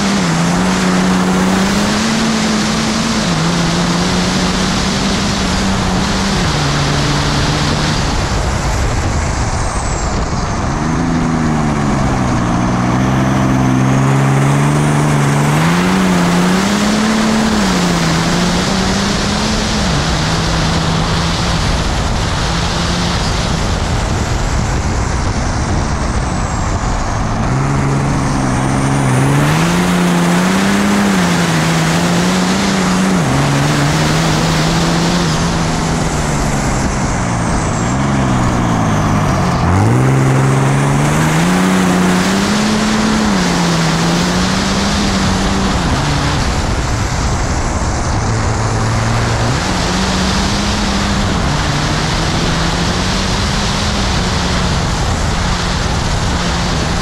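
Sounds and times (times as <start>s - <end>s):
diesel engine revving under load: 0.0s - 57.0s
wind noise: 0.0s - 57.0s.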